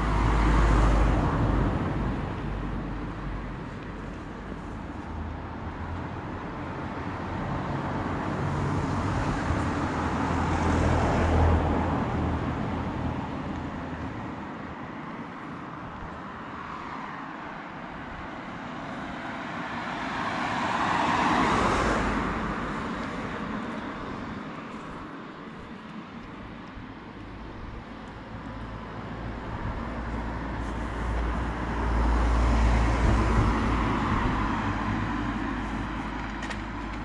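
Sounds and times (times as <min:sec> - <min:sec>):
vehicles passing by: 0:00.0 - 0:37.0.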